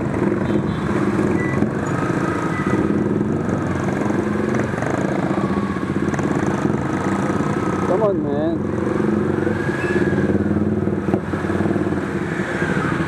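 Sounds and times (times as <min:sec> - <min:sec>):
motorcycle engine at low revs: 0:00.0 - 0:13.0
surrounding traffic noise: 0:00.0 - 0:13.0.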